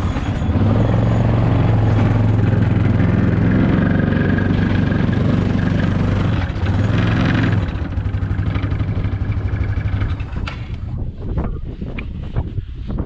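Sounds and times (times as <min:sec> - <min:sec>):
quad bike engine running: 0:00.0 - 0:11.1.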